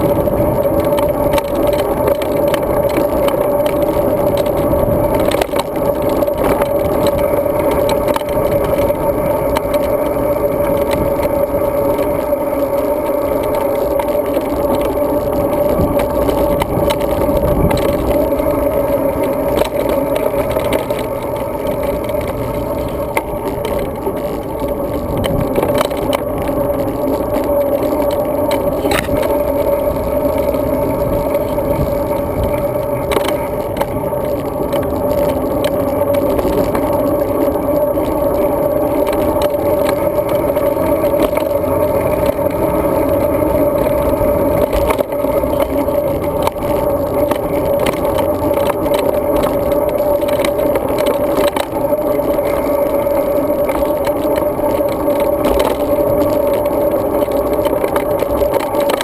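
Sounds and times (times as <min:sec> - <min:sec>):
constant hum: 0:00.0 - 0:59.0
wind and tyre rolling noise: 0:00.0 - 0:59.0.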